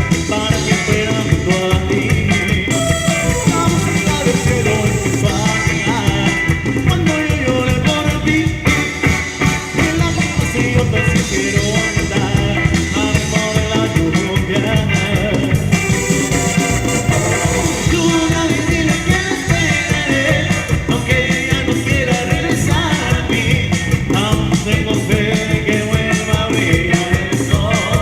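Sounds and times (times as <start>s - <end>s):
band playing with driving beat: 0.0s - 28.0s.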